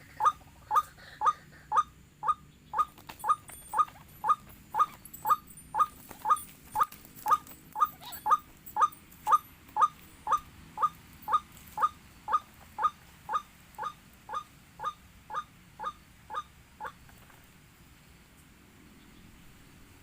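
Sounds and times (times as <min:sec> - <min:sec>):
waterhen calling: 0:00.0 - 0:17.1.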